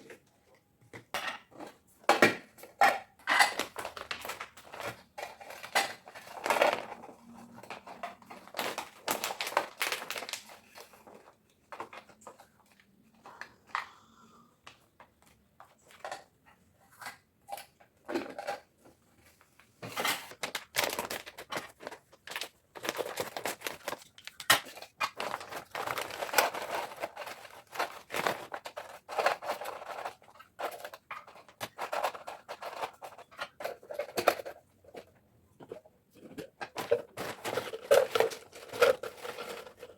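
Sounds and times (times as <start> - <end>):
clicks and knocks of handled items: 0.0 - 14.0, 14.6 - 39.9
plastic crinkling and rustling: 1.6 - 13.9, 14.6 - 39.9.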